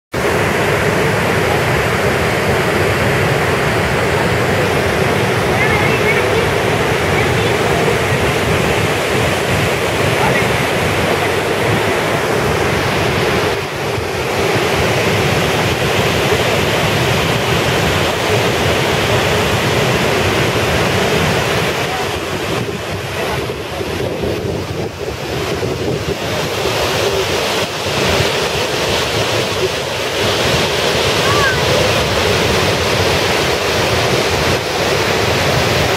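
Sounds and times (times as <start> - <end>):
waterfall rushing: 0.2 - 35.9
wind buffeting microphone: 0.4 - 35.9.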